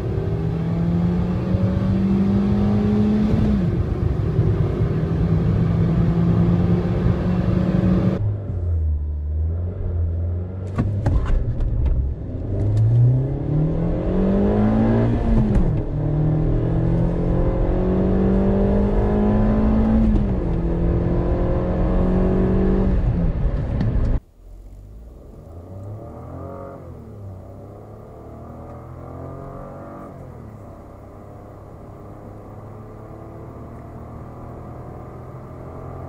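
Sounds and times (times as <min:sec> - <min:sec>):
car engine at full throttle: 0:00.0 - 0:36.0.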